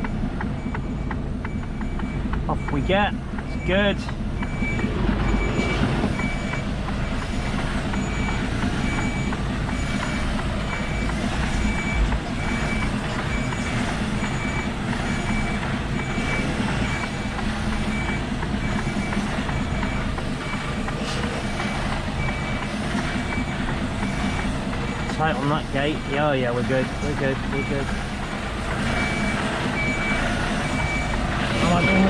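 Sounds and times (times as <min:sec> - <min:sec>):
reversing alarm beeping: 0:00.0 - 0:32.0
truck engine at low revs: 0:00.0 - 0:32.0.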